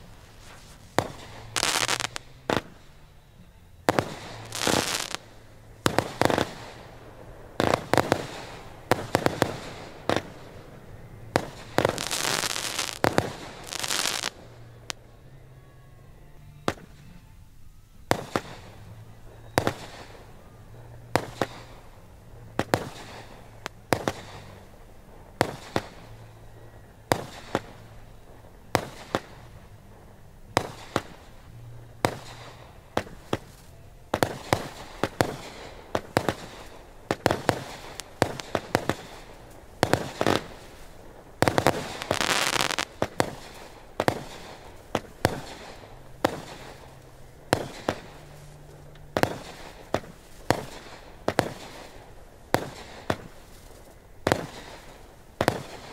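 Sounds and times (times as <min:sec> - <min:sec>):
fireworks bangs: 0:00.0 - 0:03.0, 0:03.8 - 0:15.1, 0:18.0 - 0:55.9
fireworks crackle and hiss: 0:00.0 - 0:15.3, 0:17.7 - 0:55.9.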